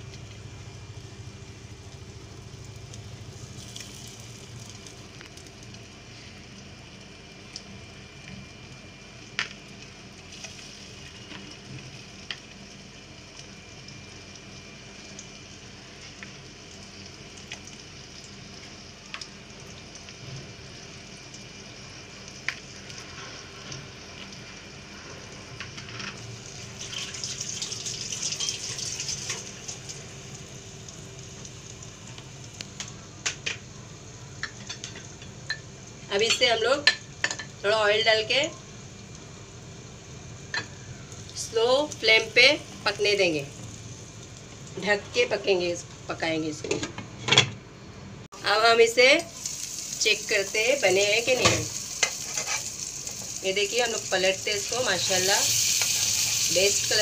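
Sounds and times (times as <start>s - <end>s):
patties sizzling in oil: 0.0s - 46.6s, 48.3s - 57.0s.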